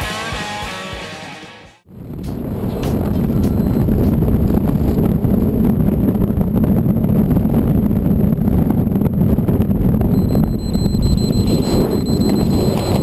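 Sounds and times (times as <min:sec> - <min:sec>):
wind buffeting microphone: 0:01.9 - 0:13.0.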